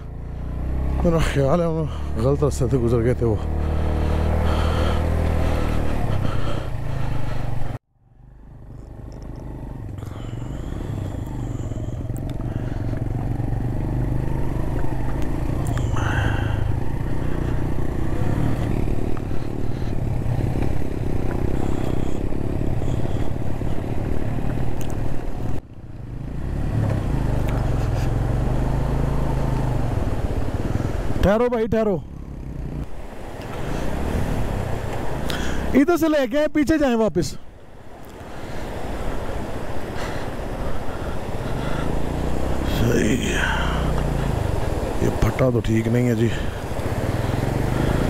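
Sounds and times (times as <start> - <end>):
motorcycle engine running: 0.0 - 31.1, 37.7 - 45.0, 46.2 - 48.0.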